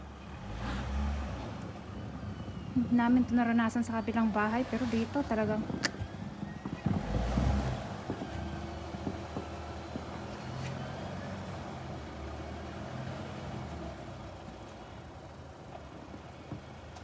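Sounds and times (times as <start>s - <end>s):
car engine humming at low revs: 0.0s - 17.0s.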